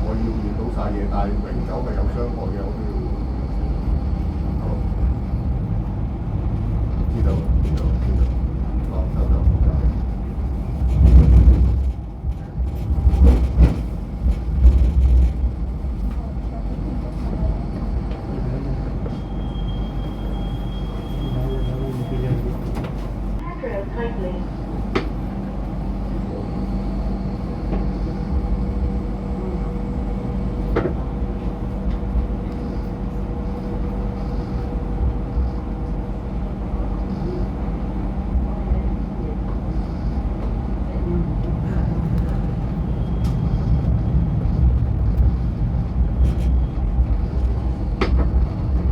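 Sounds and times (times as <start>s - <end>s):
light rail train rumbling: 0.0s - 48.9s.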